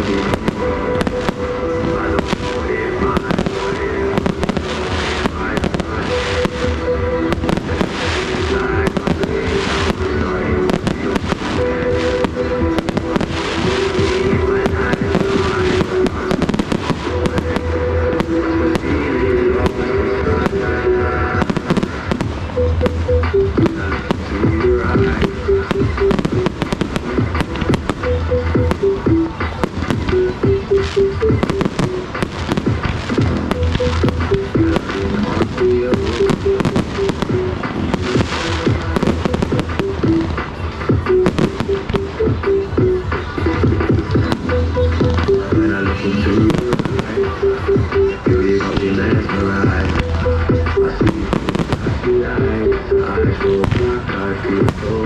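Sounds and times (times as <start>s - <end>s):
fireworks bangs and crackling: 0.0s - 55.0s
music with held notes: 0.0s - 55.0s.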